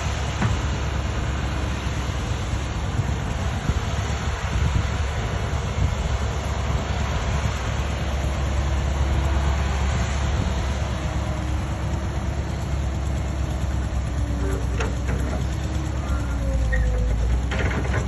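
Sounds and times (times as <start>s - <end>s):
heavy vehicle rumbling: 0.0s - 18.0s.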